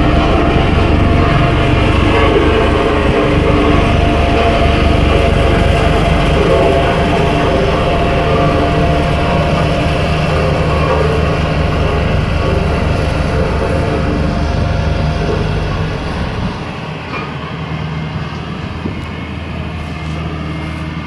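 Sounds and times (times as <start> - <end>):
road roller diesel engine rumbling: 0.0 - 21.0.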